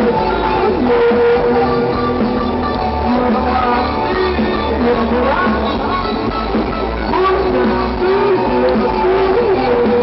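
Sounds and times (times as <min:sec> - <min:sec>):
rock band playing live: 0:00.0 - 0:10.0.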